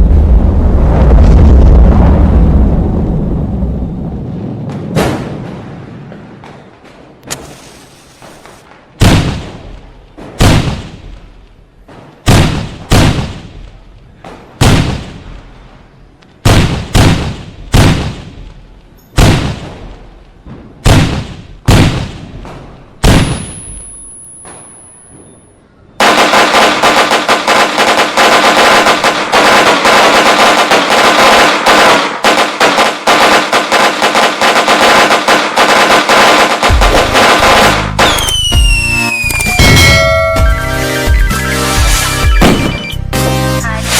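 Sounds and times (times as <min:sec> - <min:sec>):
fireworks exploding: 0:00.0 - 0:43.0
firecrackers crackling: 0:03.7 - 0:25.2, 0:26.0 - 0:43.0.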